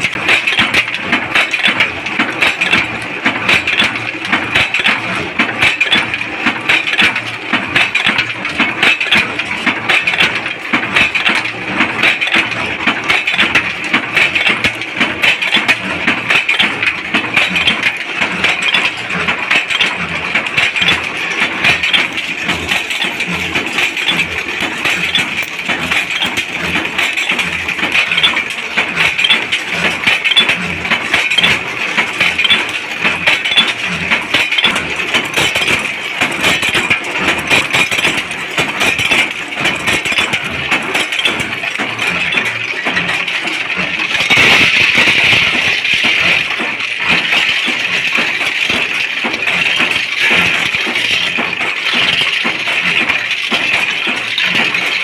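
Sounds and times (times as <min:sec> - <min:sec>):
machines clattering: 0:00.0 - 0:55.0.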